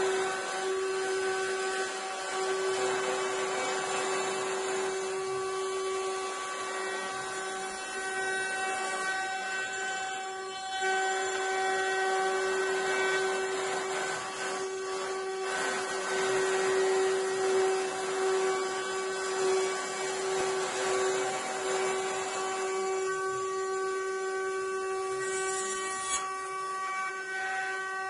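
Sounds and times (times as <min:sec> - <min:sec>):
router bit cutting wood: 0:00.0 - 0:28.0
router spindles whining: 0:00.0 - 0:28.0.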